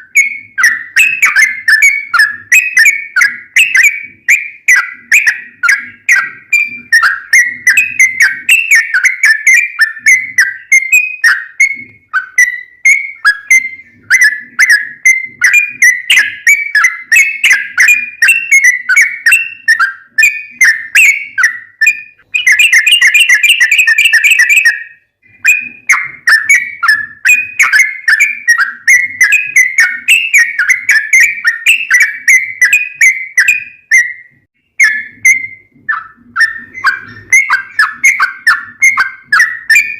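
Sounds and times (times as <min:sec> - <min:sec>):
bird singing chirping notes: 0:00.0 - 0:39.9.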